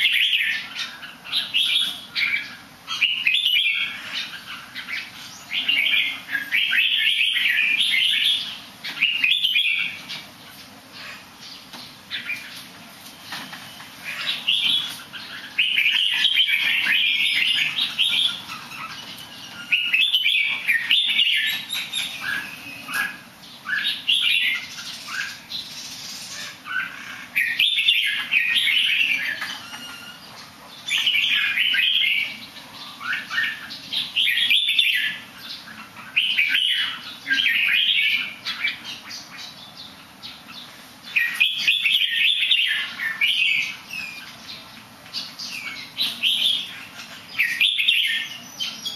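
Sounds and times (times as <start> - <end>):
songbird warbling: 0.0 - 48.9.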